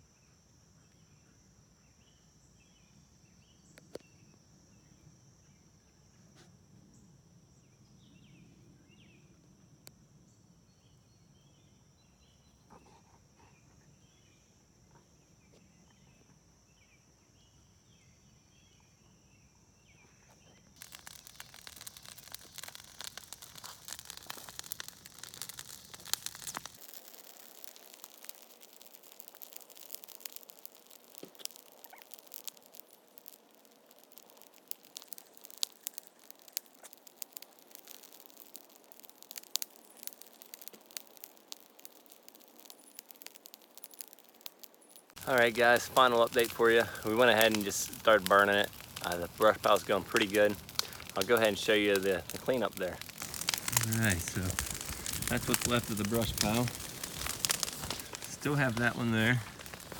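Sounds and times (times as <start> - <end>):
insects droning: 0.0 - 59.9
burning brush crackling and popping: 2.3 - 5.6, 7.5 - 59.9.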